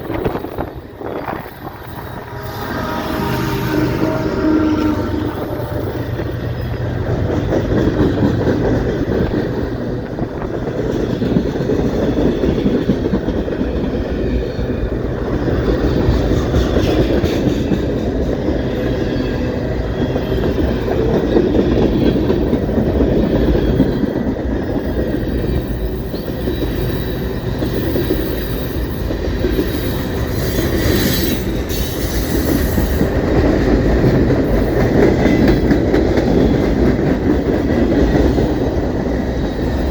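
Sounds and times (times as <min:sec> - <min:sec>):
train wheels rumbling and clacking: 0:00.0 - 0:39.9.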